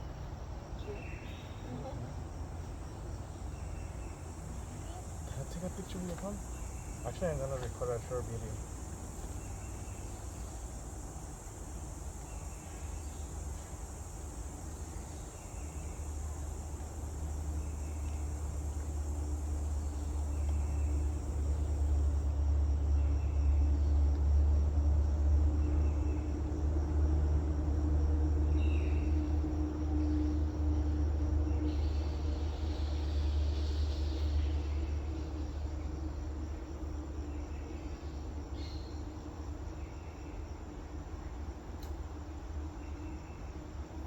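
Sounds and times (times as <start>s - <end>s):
low engine rumble: 0.0s - 37.6s.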